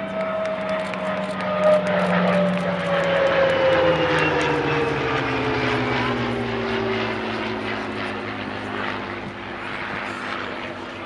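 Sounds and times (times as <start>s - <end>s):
piston fighter planes flying past: 0.0s - 11.0s.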